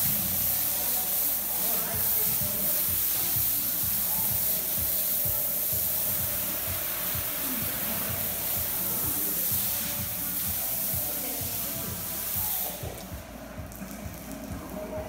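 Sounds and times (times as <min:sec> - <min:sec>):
water spraying hiss: 0:00.0 - 0:15.0.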